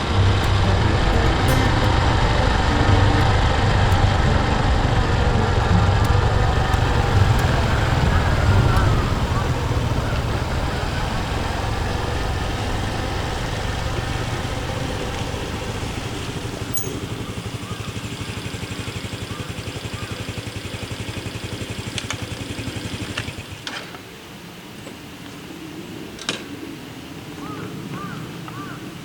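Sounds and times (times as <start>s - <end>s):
motorcycle engine idling: 0.0s - 23.7s.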